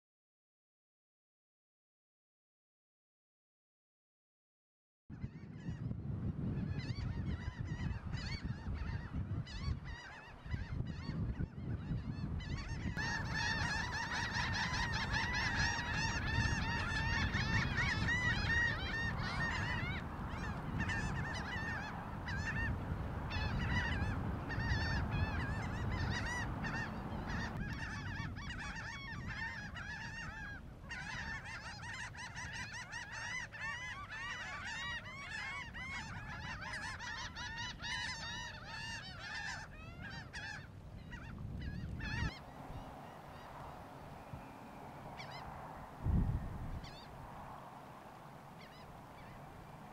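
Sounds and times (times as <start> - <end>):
gulls calling: 6.8 - 49.9.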